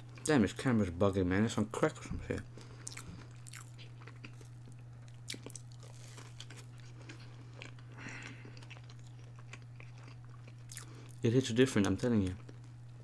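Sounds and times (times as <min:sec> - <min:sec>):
steady low hum: 0:00.0 - 0:13.0
biting and crunching breaded chicken: 0:02.2 - 0:13.0.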